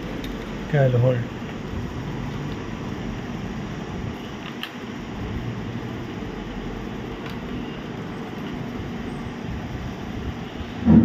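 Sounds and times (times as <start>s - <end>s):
fan humming: 0.0s - 11.0s.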